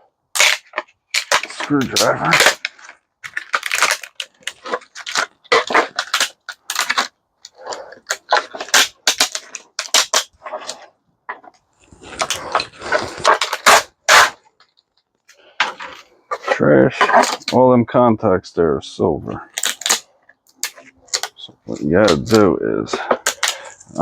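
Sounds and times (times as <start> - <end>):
plastic cracking and clicking: 0.3 - 17.6, 19.4 - 24.0
screwdriver crunching and scraping: 0.4 - 17.6, 19.4 - 24.0.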